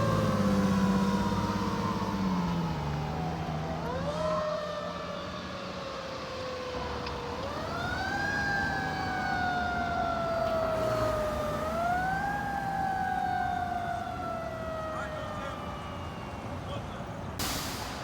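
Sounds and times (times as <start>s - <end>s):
fire truck siren wailing: 0.0s - 17.4s
passing vehicle rumble: 0.0s - 18.0s.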